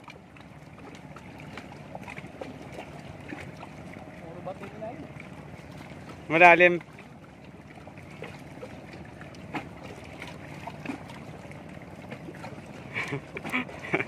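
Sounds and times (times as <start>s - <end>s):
faint splashes: 0.0s - 14.0s
sea water lapping around rocks: 0.0s - 14.0s
wind: 0.0s - 14.0s.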